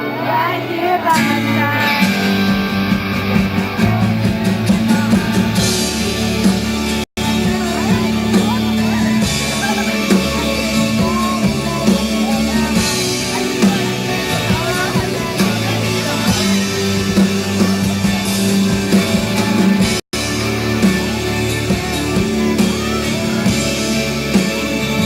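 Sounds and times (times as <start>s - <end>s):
person singing: 0.0s - 2.6s, 3.7s - 25.0s
drum kit: 0.0s - 25.0s
electric guitars: 0.0s - 25.0s
sustained bass notes: 0.0s - 25.0s.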